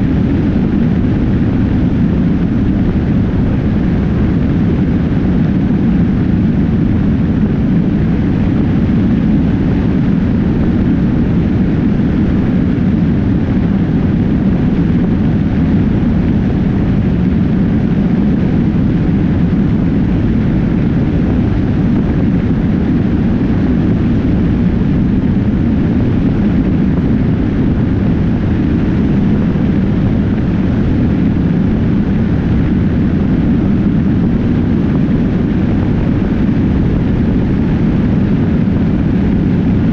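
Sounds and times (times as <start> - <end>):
motorcycle road noise: 0.0 - 39.9
wind rush: 0.0 - 39.9.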